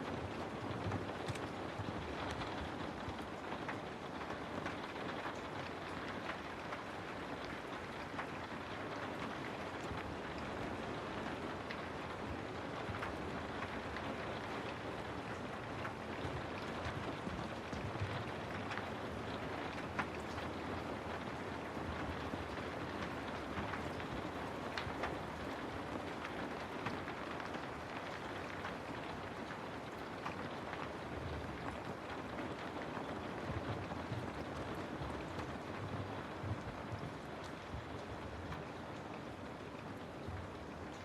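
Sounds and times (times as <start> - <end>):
steady rain falling: 0.0 - 41.0
raindrops ticking: 0.1 - 41.0.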